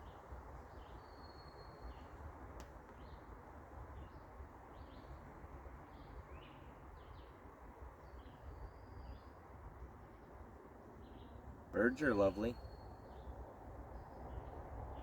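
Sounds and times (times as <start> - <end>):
songbirds chirping: 0.0 - 9.8, 10.9 - 15.0.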